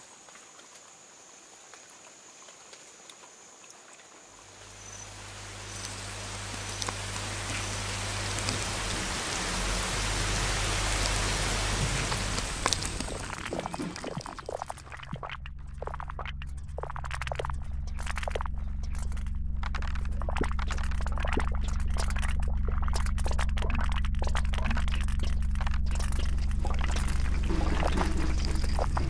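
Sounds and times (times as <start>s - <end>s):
rain falling: 0.0s - 29.0s
low steady hum: 4.4s - 29.0s.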